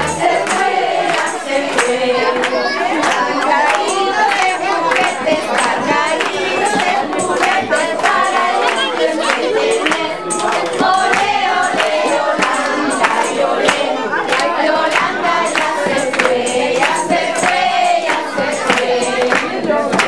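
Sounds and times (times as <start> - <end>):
crowd singing together: 0.0 - 20.0
hand claps: 0.0 - 20.0.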